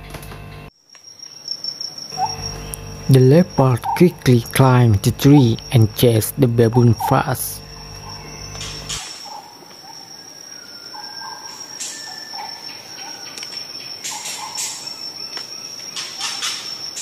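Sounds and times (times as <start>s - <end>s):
insects trilling: 0.7s - 17.0s
bird calls: 2.1s - 4.6s, 5.2s - 17.0s.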